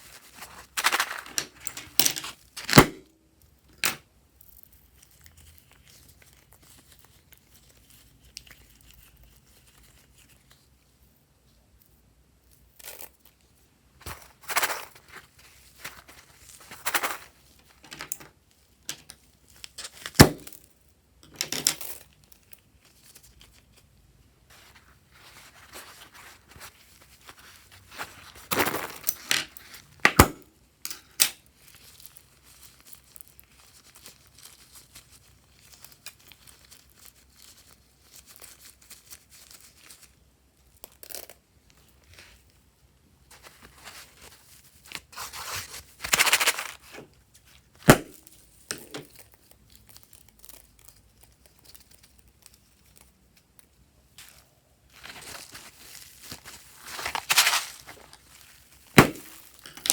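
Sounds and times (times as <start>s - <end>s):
hands handling slime materials: 0.0s - 59.9s.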